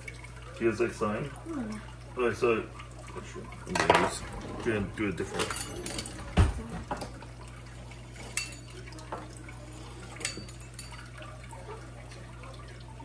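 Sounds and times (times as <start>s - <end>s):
aquarium filter humming: 0.0s - 13.0s
water trickling: 0.0s - 13.0s.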